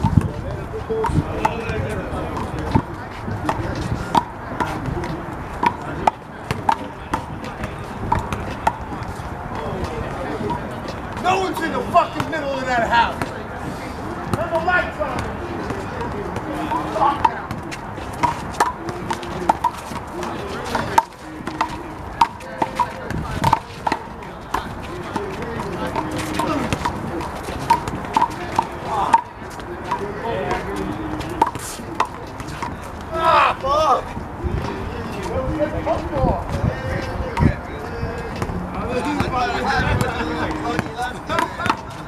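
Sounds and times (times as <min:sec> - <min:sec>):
handball smacking wall and pavement: 0:00.0 - 0:13.6, 0:14.2 - 0:34.0, 0:38.3 - 0:42.0.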